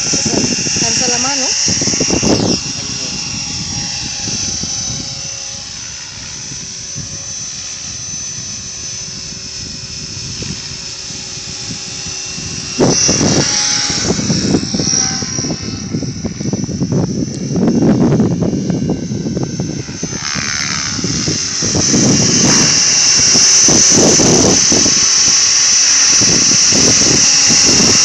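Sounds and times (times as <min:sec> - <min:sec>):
small electric motor whining: 0:00.0 - 0:28.0
wind rumbling on microphone: 0:00.0 - 0:28.0.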